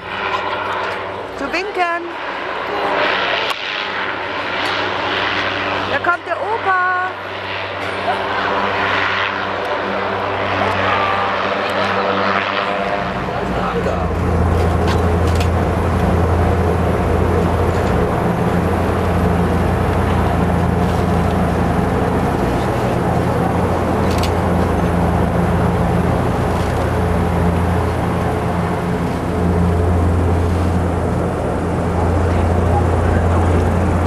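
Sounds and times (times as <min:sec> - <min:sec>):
propeller engines droning: 0:00.0 - 0:34.0.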